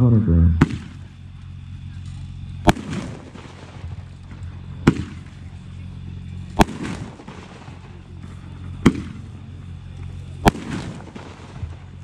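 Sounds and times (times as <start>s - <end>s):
fireworks bangs: 0.6s - 1.4s, 2.0s - 12.0s.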